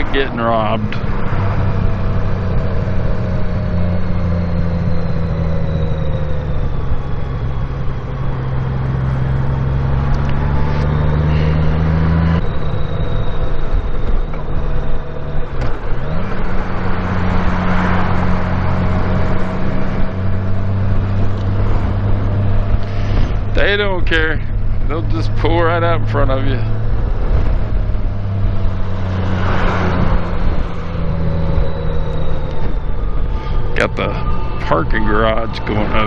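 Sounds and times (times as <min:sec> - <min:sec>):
motorcycle engine running: 0:00.0 - 0:36.0
wind noise: 0:00.0 - 0:36.0.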